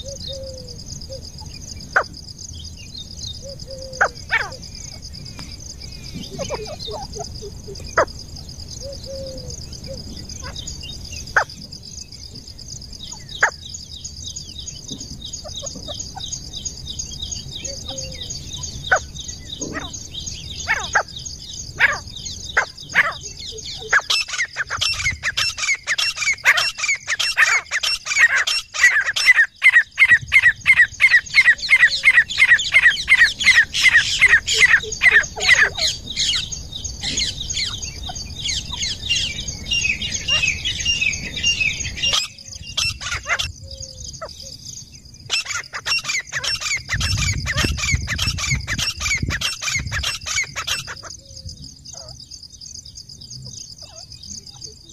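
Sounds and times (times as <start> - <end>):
francolin calling: 0.0 - 54.9.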